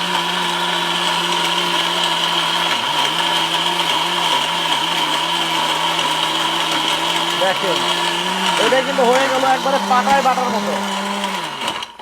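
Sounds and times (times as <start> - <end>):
mixer grinder motor whining: 0.0 - 12.0.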